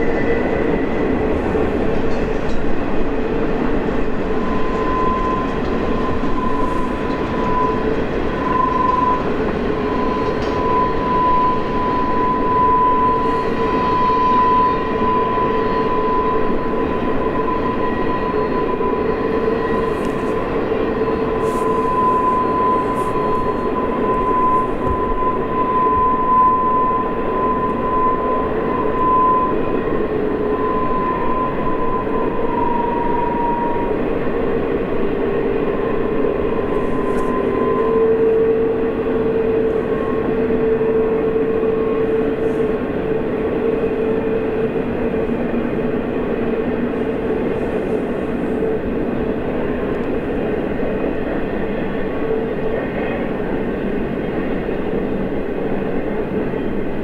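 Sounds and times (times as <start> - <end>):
train wheels rumbling on rail: 0.0 - 57.0
whining tones shifting pitch: 4.3 - 51.6.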